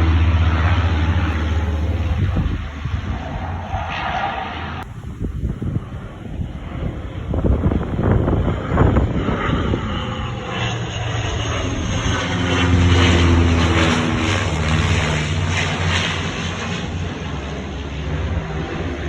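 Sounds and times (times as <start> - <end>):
wind buffeting microphone: 0.0 - 16.7
airplane engine drone: 0.0 - 19.0.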